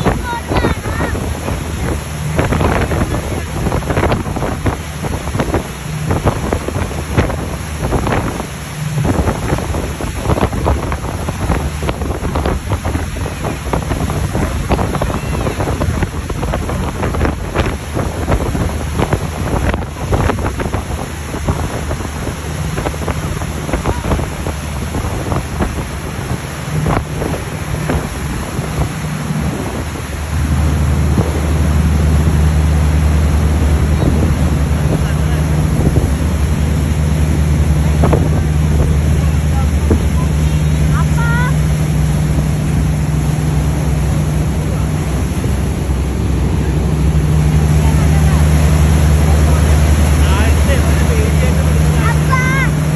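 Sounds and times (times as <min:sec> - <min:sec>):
boat engine droning: 0:00.0 - 0:52.9
motorboat wake churning: 0:00.0 - 0:52.9
wind buffeting microphone: 0:00.0 - 0:52.9.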